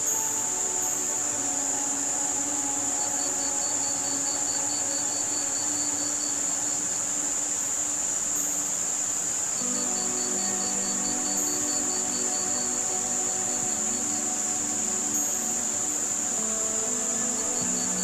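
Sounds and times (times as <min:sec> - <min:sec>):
crickets chirping: 0:00.0 - 0:18.0
high-pitched white noise hiss: 0:00.0 - 0:18.0.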